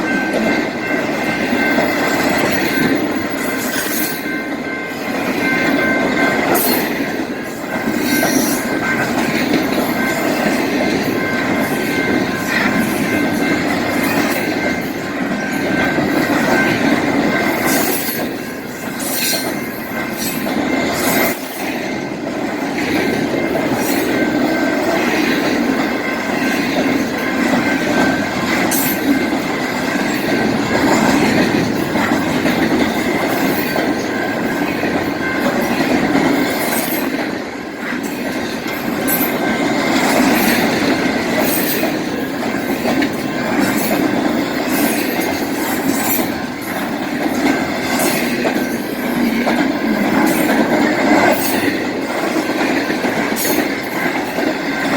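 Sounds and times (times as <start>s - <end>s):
train wheels rumbling on rail: 0.0s - 54.9s
wheels clicking over rail joints: 0.0s - 54.9s.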